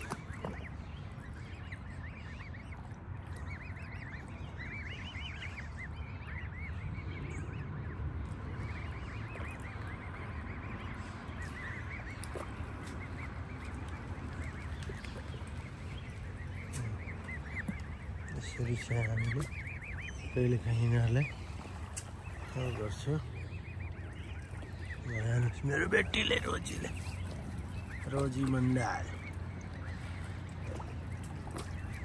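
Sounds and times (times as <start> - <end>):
flock of birds calling: 0.0 - 32.0
low steady rumble: 0.0 - 32.0.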